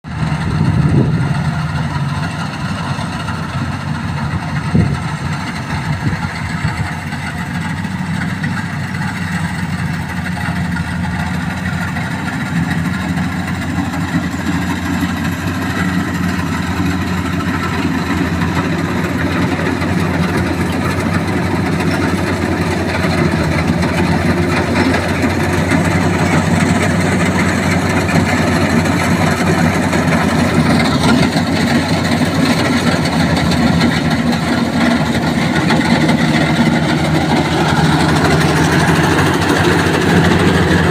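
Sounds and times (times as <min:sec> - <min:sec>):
harvester engine running: 0:00.0 - 0:40.9.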